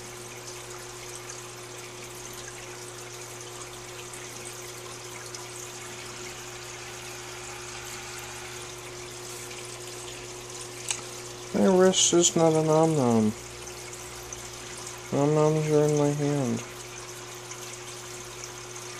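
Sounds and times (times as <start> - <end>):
aquarium filter water trickling: 0.0 - 18.9.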